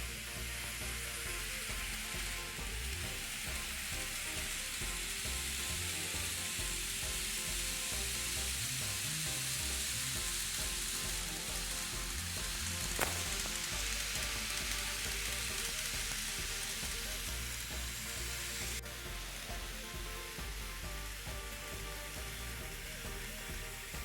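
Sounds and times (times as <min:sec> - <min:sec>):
model train running on track: 0:00.0 - 0:24.0.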